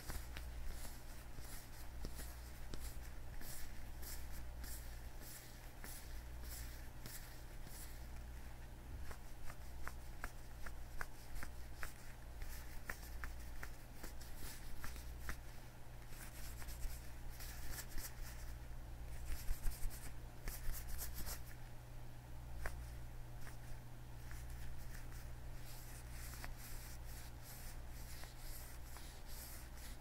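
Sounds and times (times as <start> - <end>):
gloves rustling: 0.0 - 21.6, 22.5 - 30.0.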